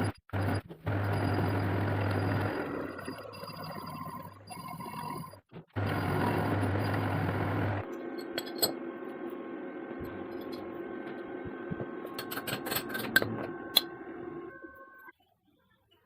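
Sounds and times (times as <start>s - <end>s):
gearbox whine: 0.0s - 15.2s.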